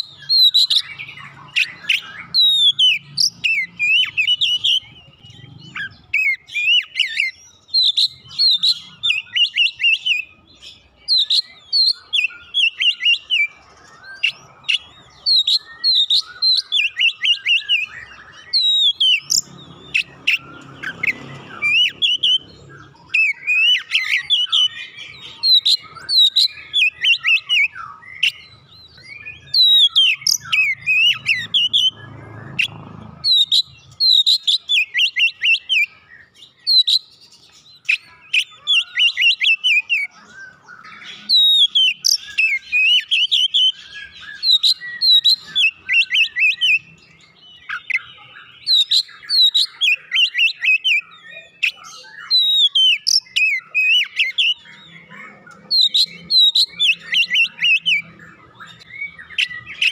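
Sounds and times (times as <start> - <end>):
songbird whistling and chirping: 0.0 - 59.9.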